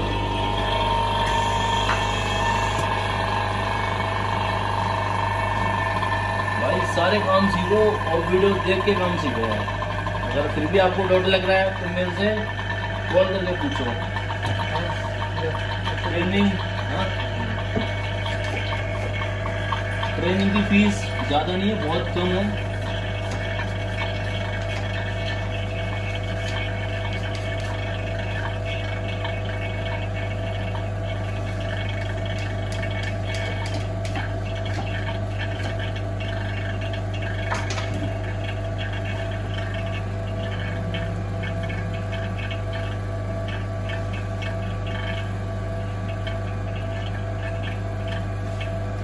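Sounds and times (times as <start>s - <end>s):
vacuum pump humming: 0.0s - 49.0s.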